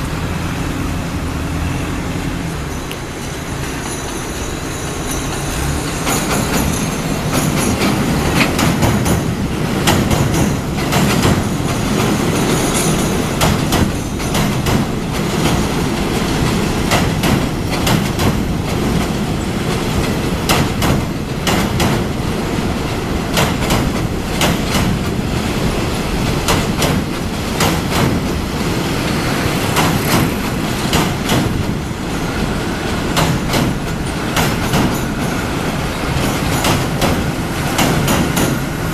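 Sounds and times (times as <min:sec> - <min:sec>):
train wheels rumbling on rail: 0:00.0 - 0:38.9
wheels clacking over rail joints: 0:00.0 - 0:38.9.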